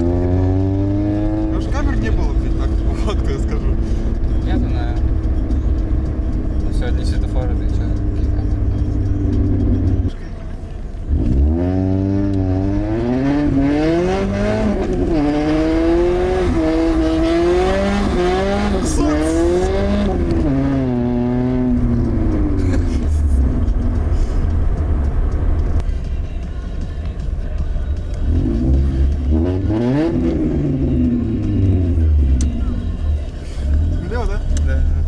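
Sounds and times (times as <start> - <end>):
loud open car exhaust accelerating: 0.0 - 35.0.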